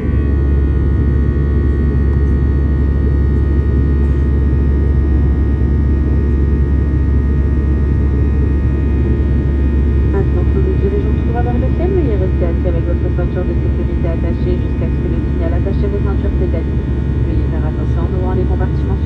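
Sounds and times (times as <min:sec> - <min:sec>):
constant tonal hum: 0:00.0 - 0:19.0
jet engine rumble in cabin: 0:00.0 - 0:19.0.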